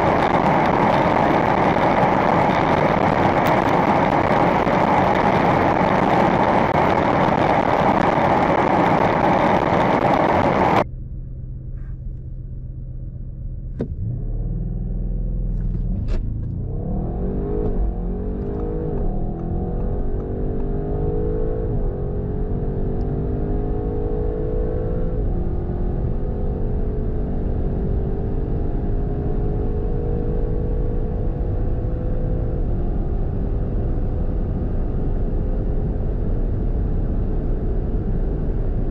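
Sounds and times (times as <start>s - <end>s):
car engine accelerating hard: 0.0s - 10.9s, 13.6s - 38.9s
car rushing at high speed: 0.0s - 10.9s, 13.6s - 38.9s.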